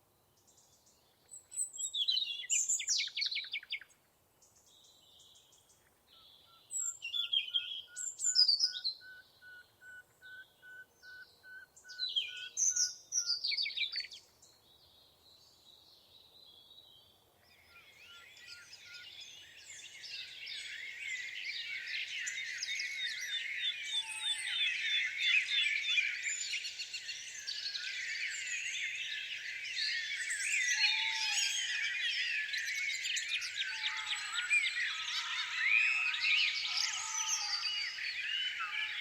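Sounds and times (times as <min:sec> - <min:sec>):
songbirds chirping and whistling: 0:00.3 - 0:39.0.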